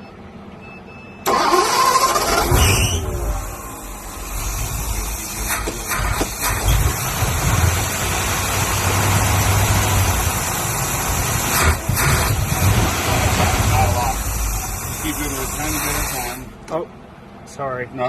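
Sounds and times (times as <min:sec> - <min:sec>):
car engine rumbling: 0:01.2 - 0:18.0.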